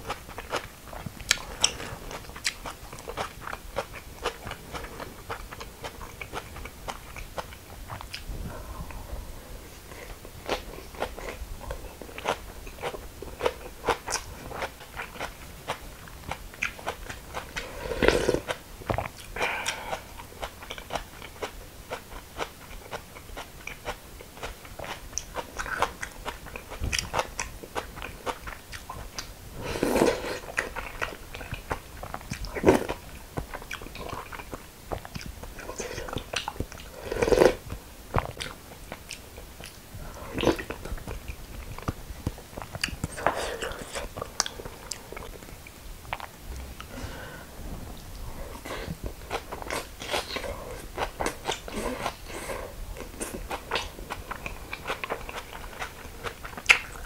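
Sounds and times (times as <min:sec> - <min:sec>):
mouth chewing crisp greens: 0:00.0 - 0:47.4, 0:48.0 - 0:57.0.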